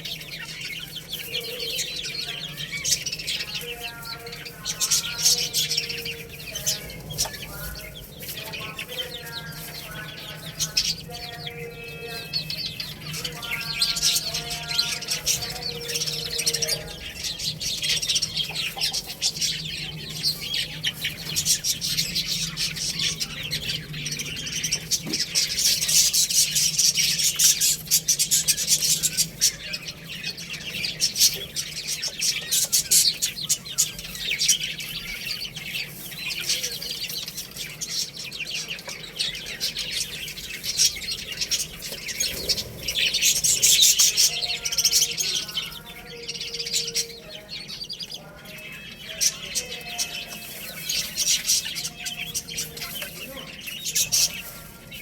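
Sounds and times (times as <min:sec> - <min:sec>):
chicks chirping: 0:00.0 - 0:55.0.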